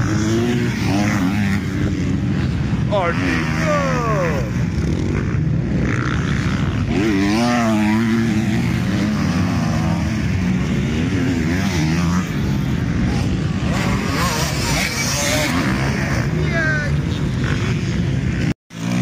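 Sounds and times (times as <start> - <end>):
motocross bikes revving: 0.0 - 19.0
rumble of engines: 0.0 - 19.0.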